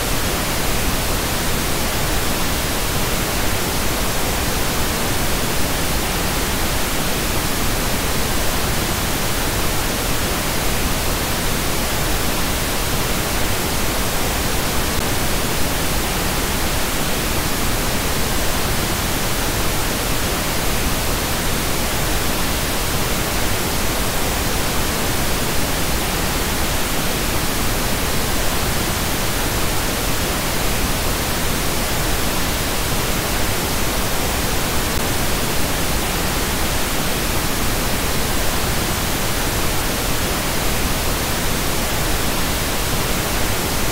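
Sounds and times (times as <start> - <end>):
pink noise hiss: 0.0 - 43.9.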